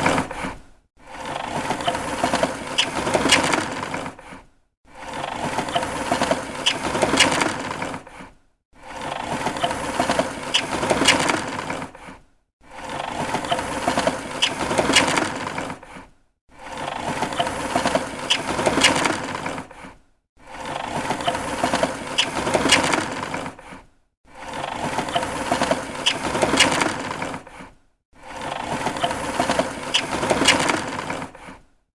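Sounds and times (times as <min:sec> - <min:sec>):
hand rattling plastic window blind: 0:00.0 - 0:04.4, 0:05.0 - 0:16.0, 0:16.6 - 0:19.9, 0:20.5 - 0:23.8, 0:24.4 - 0:31.6.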